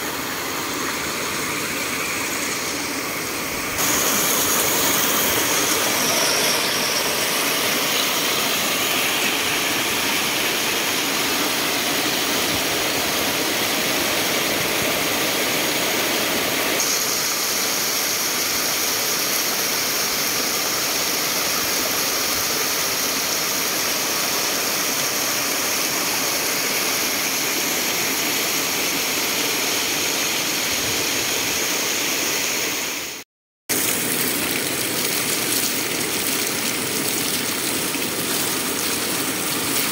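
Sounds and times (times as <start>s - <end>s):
water rushing over rocks: 0.0s - 30.0s, 32.6s - 39.9s.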